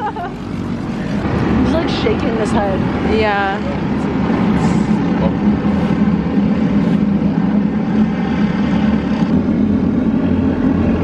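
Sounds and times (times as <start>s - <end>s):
kart engines droning: 0.0s - 11.0s.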